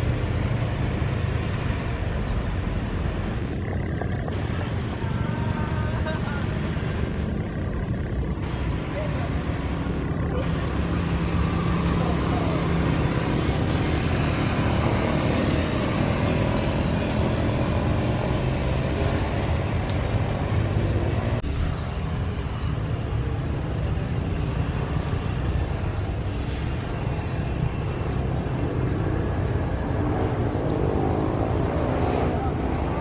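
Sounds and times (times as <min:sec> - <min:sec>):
loud engine rumble: 0:00.0 - 0:33.0.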